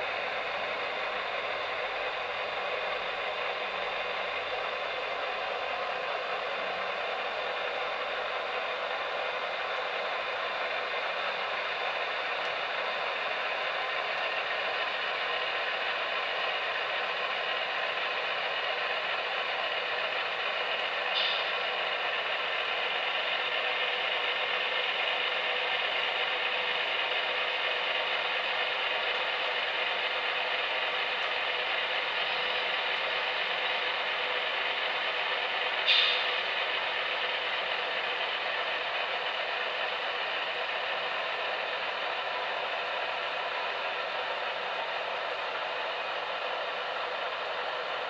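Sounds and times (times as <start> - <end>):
model train running: 0.0 - 48.0.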